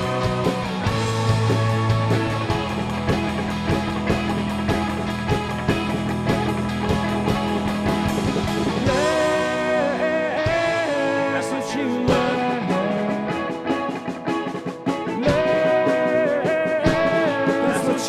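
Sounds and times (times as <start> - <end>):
sustained melodic line: 0.0 - 16.7
pop rock band playing: 0.0 - 18.0.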